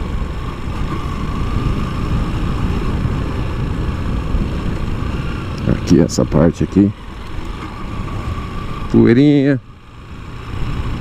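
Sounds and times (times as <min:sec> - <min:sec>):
motorcycle engine running: 0:00.0 - 0:11.0
wind and tyre noise: 0:00.0 - 0:11.0.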